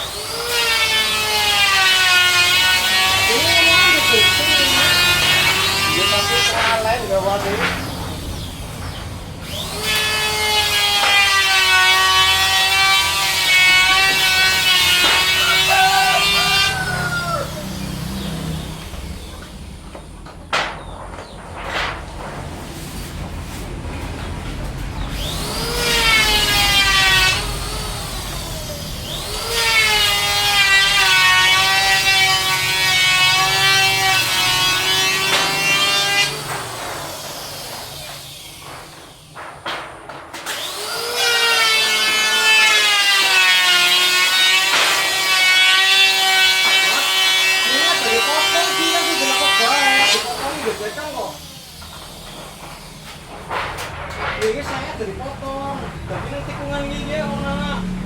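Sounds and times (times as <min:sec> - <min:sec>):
power tool cutting wood: 0:00.0 - 0:20.8, 0:24.9 - 0:58.0.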